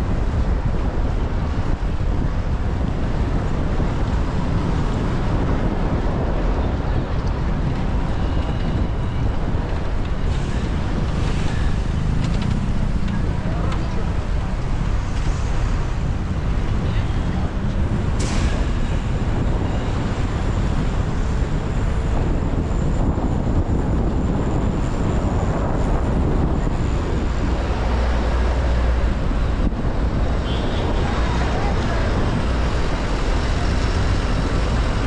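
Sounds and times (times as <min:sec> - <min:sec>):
city traffic noise: 0:00.0 - 0:35.0
wind rush: 0:00.0 - 0:35.0.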